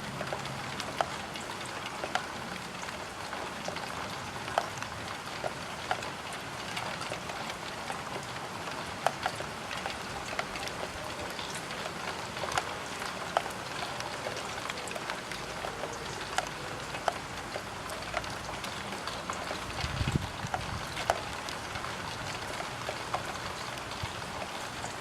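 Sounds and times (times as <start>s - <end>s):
rain on a window: 0.0s - 25.0s.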